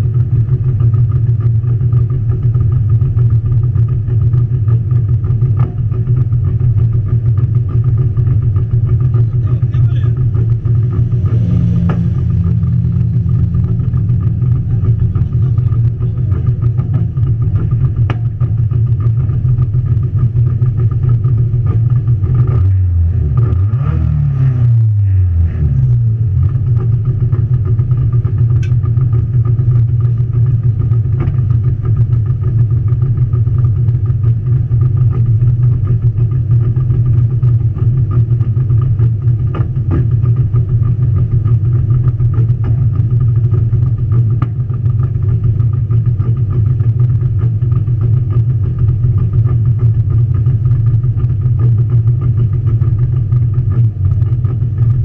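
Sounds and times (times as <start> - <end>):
car engine idling loudly: 0.0 - 55.0.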